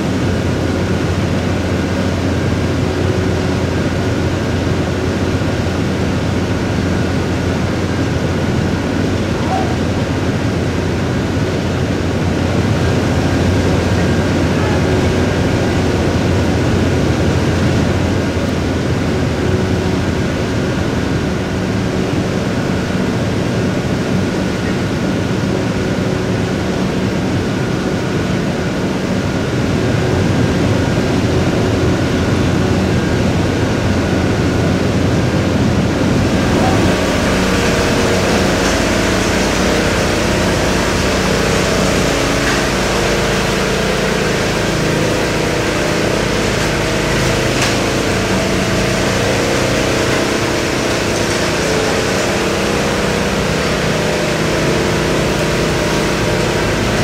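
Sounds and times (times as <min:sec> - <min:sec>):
construction machinery engines running: 0:00.0 - 0:57.0.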